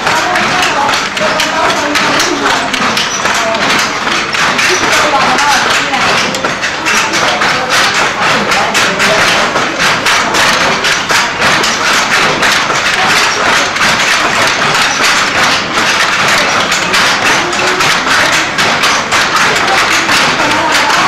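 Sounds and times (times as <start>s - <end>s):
wooden handloom clattering: 0.0s - 21.0s.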